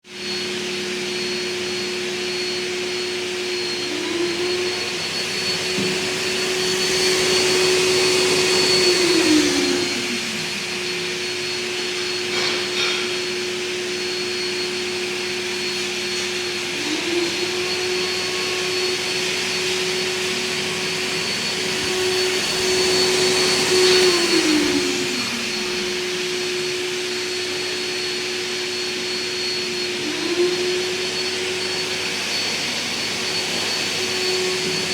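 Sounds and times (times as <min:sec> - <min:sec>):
vacuum cleaner motor whining: 0:00.0 - 0:34.9.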